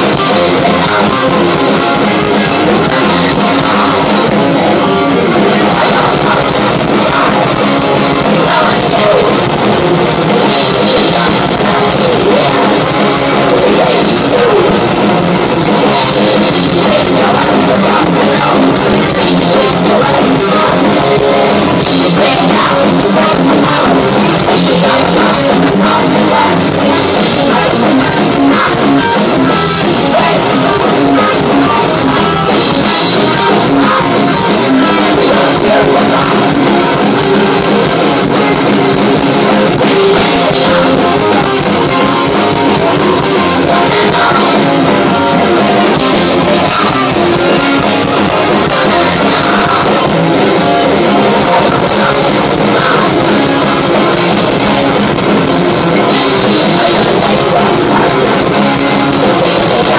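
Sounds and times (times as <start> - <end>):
distorted electric guitars: 0.0 - 59.9
drum kit: 0.0 - 59.9
metal band playing live: 0.0 - 59.9.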